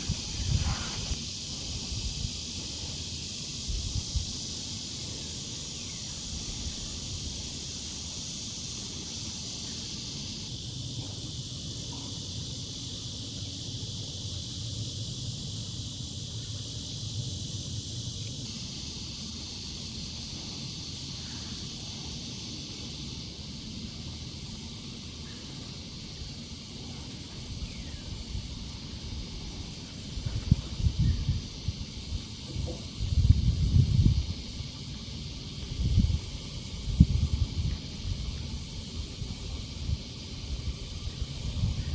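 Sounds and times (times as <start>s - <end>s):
insects hissing: 0.0s - 41.9s.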